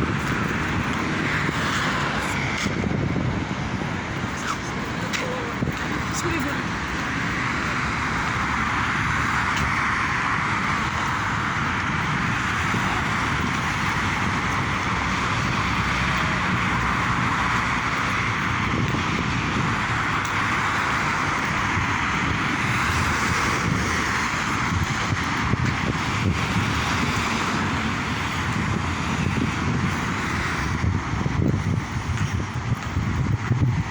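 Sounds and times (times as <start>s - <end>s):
wind: 0.0s - 33.9s.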